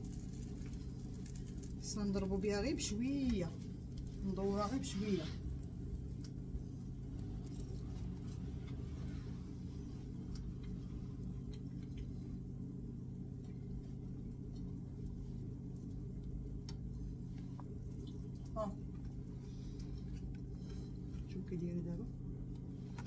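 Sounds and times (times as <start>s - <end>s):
kitchen fan humming: 0.0s - 23.0s.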